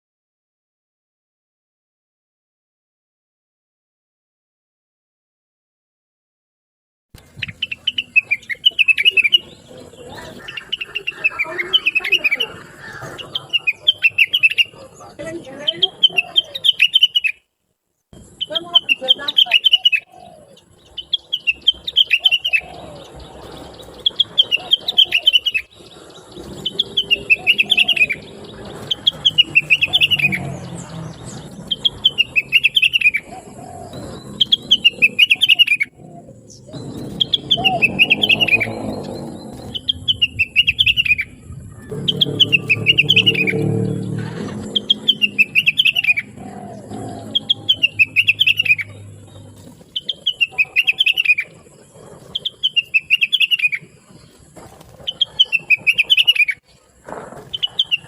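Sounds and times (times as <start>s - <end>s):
songbird chirping: 7.2s - 17.5s, 18.2s - 58.0s.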